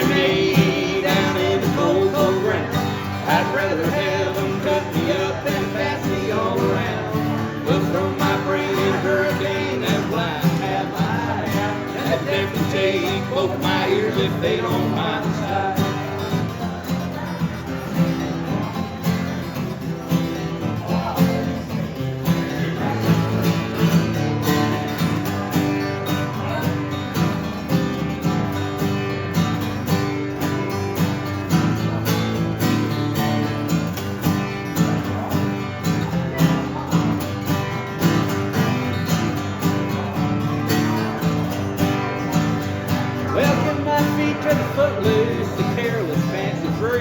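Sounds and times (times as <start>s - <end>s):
guitar strumming: 0.0s - 47.0s.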